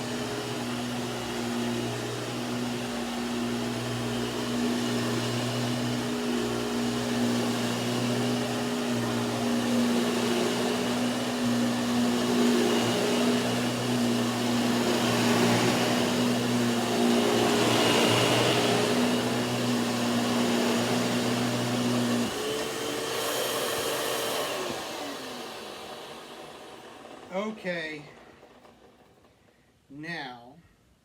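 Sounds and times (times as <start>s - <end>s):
vacuum motor winding down: 0.0s - 29.4s
vacuum cleaner humming: 0.0s - 29.5s.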